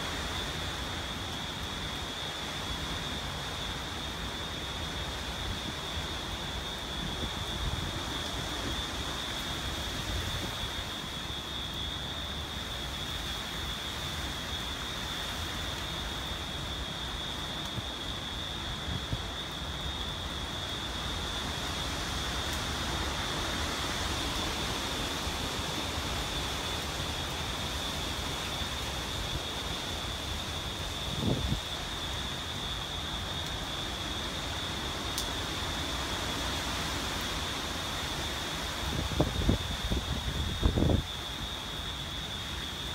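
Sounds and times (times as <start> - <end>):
rain hiss: 0.0 - 42.9.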